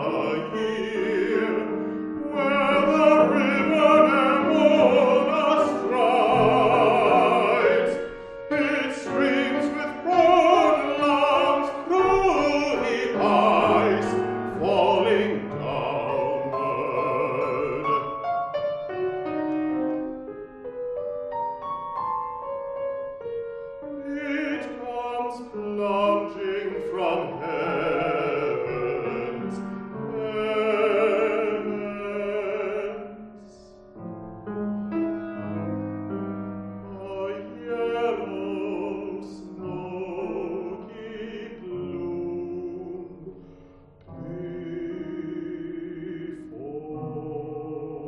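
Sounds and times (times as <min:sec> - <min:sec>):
baritone singing with vibrato: 0:00.0 - 0:18.5, 0:24.0 - 0:34.0, 0:36.8 - 0:48.0
piano accompaniment: 0:00.0 - 0:48.0.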